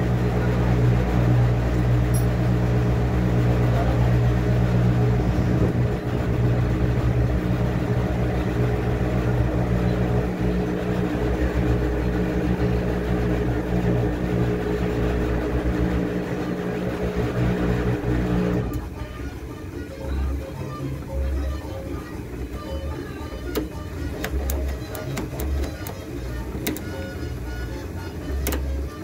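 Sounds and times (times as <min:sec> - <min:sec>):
washing machine motor humming: 0:00.0 - 0:29.0.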